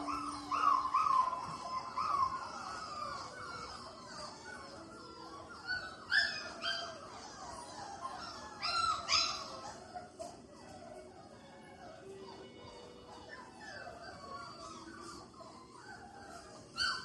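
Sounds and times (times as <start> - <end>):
puppies whimpering and yipping: 0.0 - 17.0.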